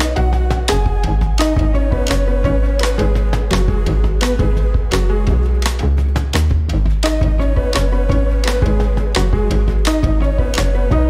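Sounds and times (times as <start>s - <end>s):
background music with strong bass: 0.0s - 11.0s.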